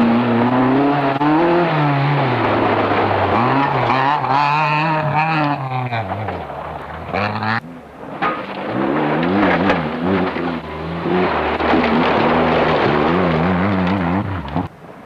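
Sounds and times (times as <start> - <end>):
rally car engine revving: 0.0 - 15.0
tyres on loose gravel: 0.0 - 15.0.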